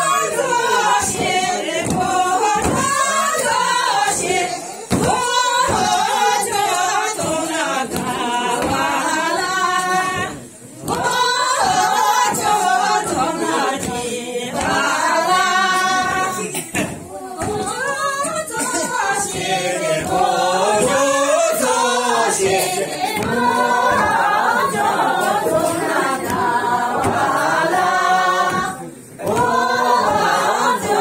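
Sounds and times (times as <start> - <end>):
women singing together: 0.0 - 31.0.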